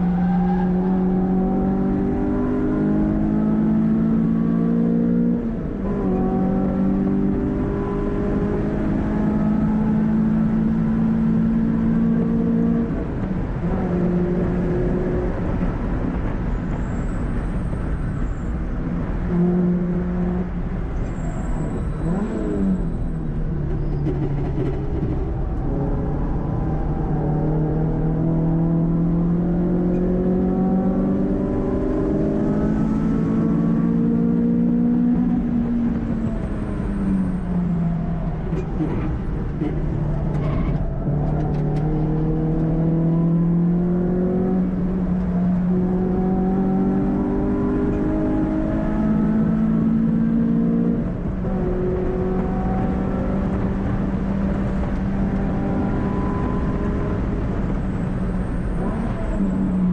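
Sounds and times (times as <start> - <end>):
car engine revving: 0.0 - 16.0, 21.8 - 59.9.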